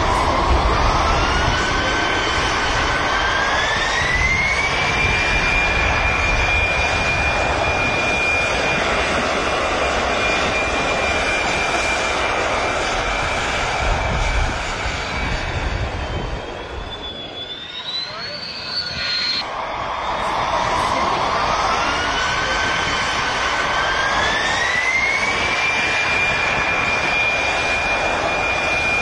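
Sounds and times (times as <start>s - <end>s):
aircraft engine turbine whine: 0.0s - 29.0s.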